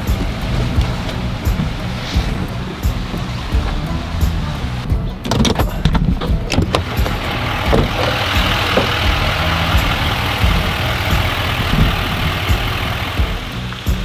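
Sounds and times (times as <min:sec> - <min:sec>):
steady hiss: 0:00.0 - 0:14.0
truck engine running low: 0:00.0 - 0:14.0.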